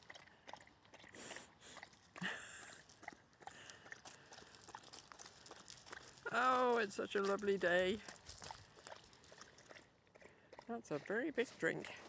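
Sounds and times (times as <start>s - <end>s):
dog lapping water: 0.0s - 6.3s, 8.4s - 12.0s.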